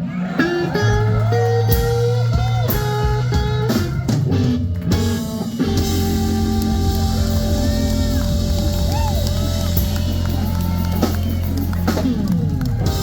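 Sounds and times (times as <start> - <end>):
bass and drums: 0.0 - 13.0
electric guitar bent notes: 0.3 - 13.0.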